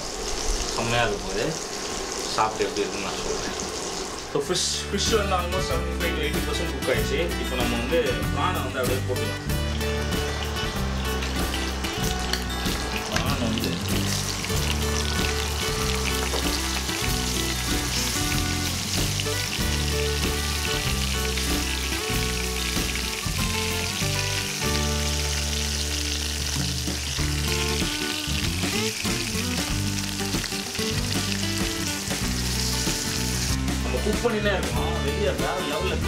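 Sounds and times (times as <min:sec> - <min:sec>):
food sizzling in oil: 0:00.0 - 0:05.6, 0:06.5 - 0:35.9
background music: 0:04.3 - 0:36.0.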